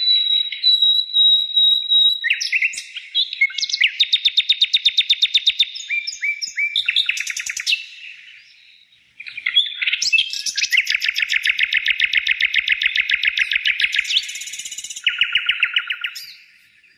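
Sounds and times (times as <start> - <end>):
songbird trilling: 0.0 - 16.9.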